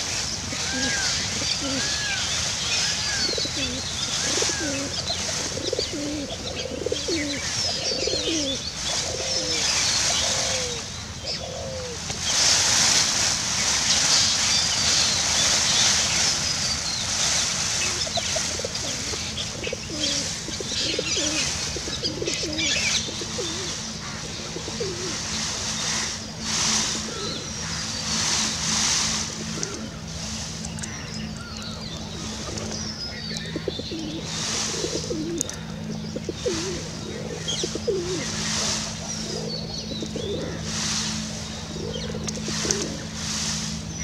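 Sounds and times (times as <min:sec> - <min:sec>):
pigeons cooing: 0:00.0 - 0:12.8, 0:17.2 - 0:44.0
small birds chirping: 0:00.0 - 0:12.8, 0:13.5 - 0:44.0.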